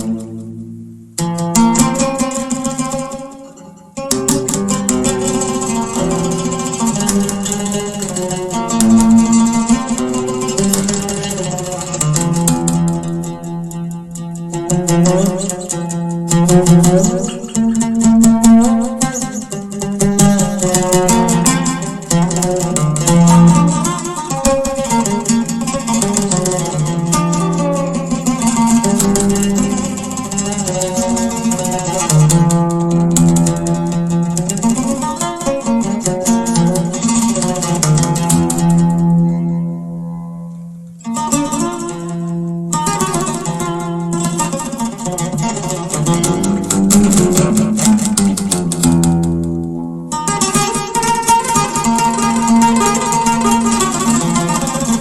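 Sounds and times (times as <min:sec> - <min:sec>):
oud melody: 0:00.0 - 0:55.0.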